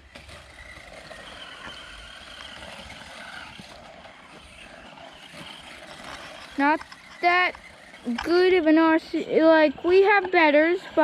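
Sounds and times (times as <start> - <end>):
toy truck electric motor whining: 0.0 - 11.0.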